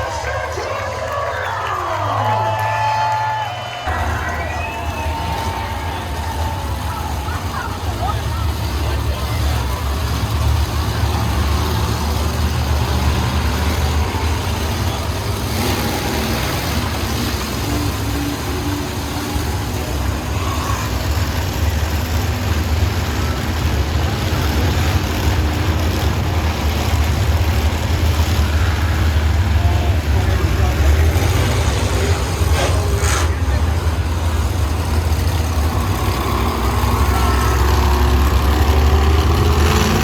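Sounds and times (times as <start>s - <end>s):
truck engine low rumble: 0.0s - 40.0s.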